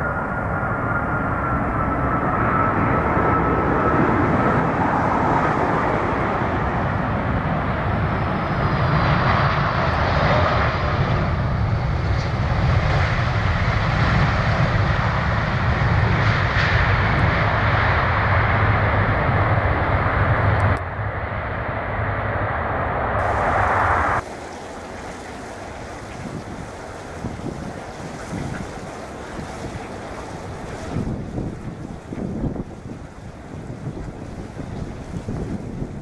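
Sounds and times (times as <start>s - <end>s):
jet engines roaring on landing: 0.0s - 36.0s.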